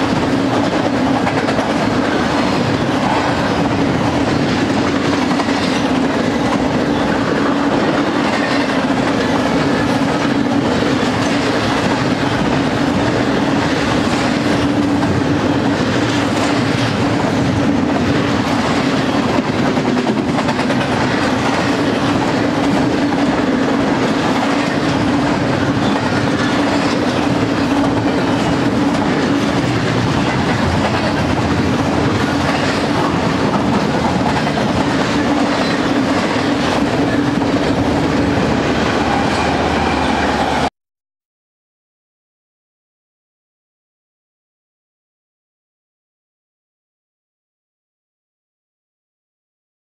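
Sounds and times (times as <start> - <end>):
train wheels on rails: 0.0 - 40.7.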